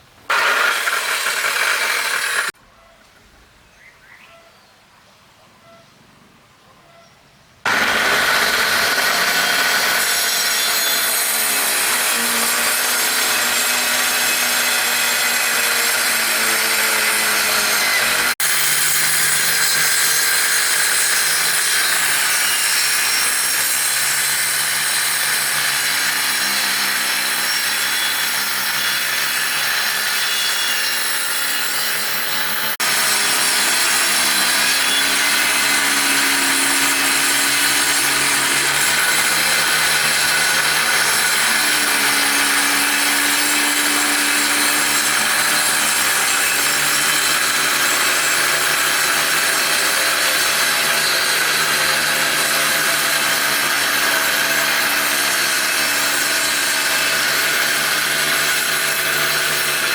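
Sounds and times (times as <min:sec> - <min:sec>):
power saw cutting wood: 0:00.2 - 0:02.6, 0:07.7 - 0:59.9.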